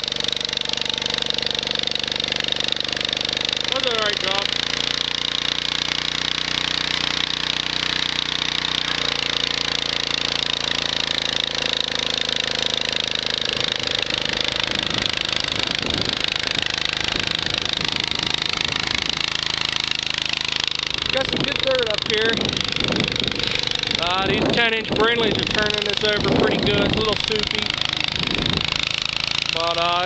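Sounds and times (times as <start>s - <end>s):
garden tractor engine under load: 0.0s - 30.0s.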